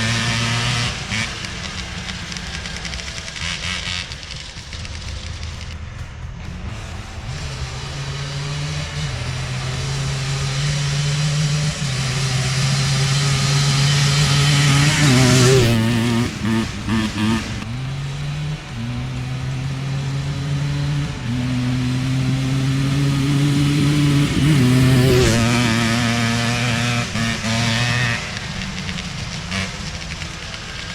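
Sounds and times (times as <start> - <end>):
atv two-stroke engine revving: 0.0 - 30.9.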